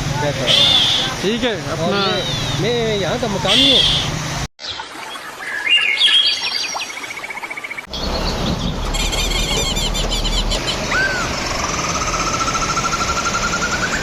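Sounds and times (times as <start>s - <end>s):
small songbirds chirping and trilling: 0.4s - 1.1s, 1.9s - 14.0s.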